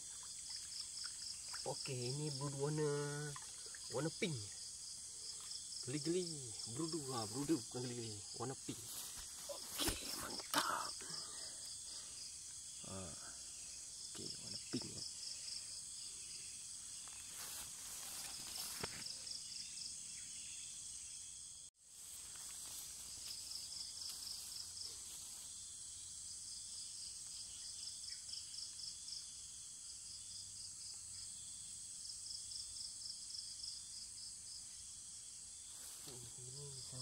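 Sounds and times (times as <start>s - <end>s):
insects buzzing and chirping: 0.0s - 37.0s.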